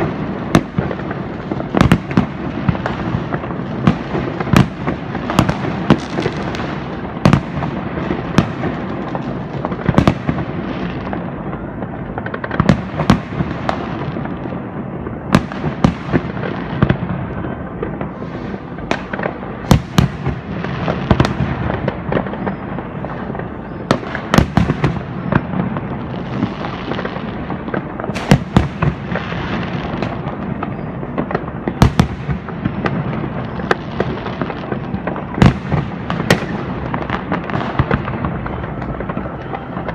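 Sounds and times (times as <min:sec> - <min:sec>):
loud sharp firework bangs: 0:00.0 - 0:39.9
rockets and firecrackers going off: 0:00.0 - 0:39.9.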